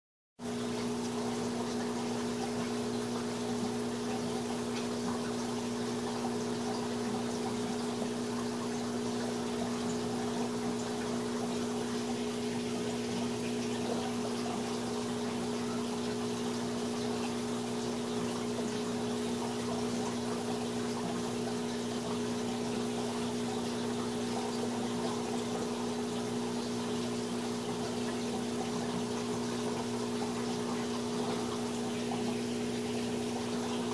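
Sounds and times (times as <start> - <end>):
aquarium pump hum: 0.4 - 33.9
hiss of circulating water: 0.4 - 33.9.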